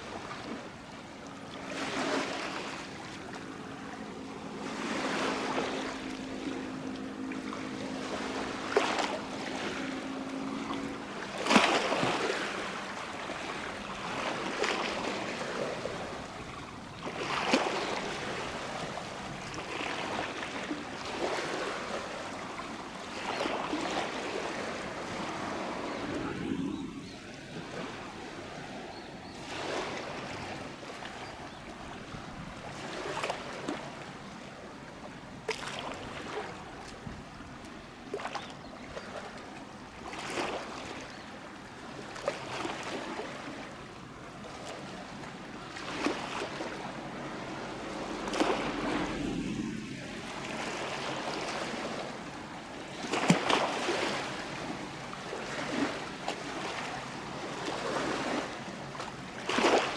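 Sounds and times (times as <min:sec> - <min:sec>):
wind and water rushing: 0:00.0 - 0:59.9.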